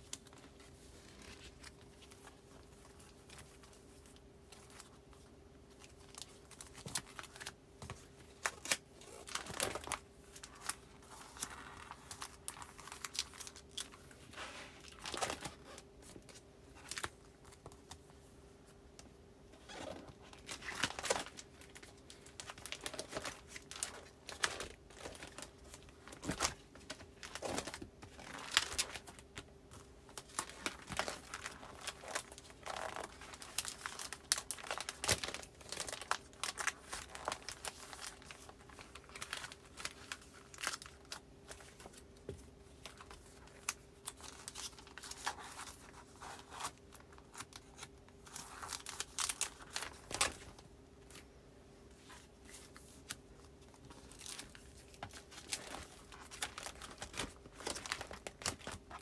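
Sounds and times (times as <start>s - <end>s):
faint steady hum: 0.0s - 59.0s
plastic sleeves and paper rustling: 0.0s - 59.0s.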